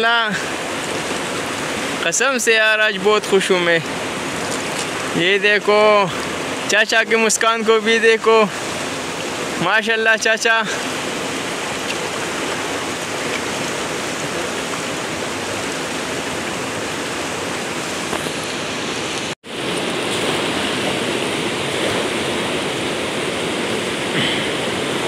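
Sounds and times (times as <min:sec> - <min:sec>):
river rushing over stones: 0:00.0 - 0:25.0.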